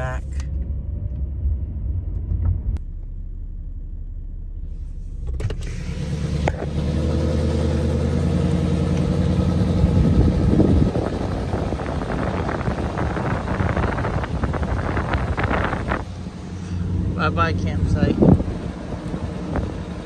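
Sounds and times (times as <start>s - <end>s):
road noise: 0.0s - 20.0s
truck engine running: 0.0s - 20.0s.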